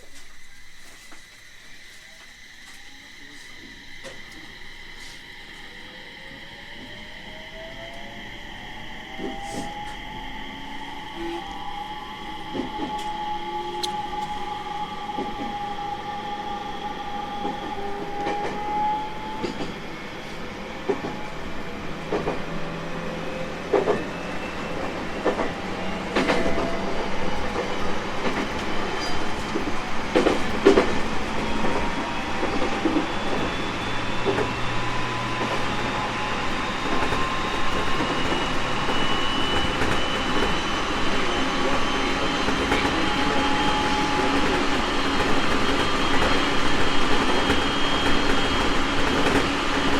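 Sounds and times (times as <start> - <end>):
electric train motors whining: 0.0 - 49.9
train running gear noise: 0.0 - 49.9.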